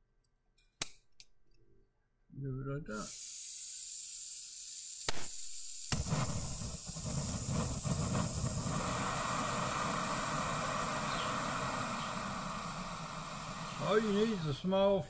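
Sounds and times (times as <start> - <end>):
gas hissing from stove valve: 2.9 - 15.0
stove flame rushing hiss: 2.9 - 15.0.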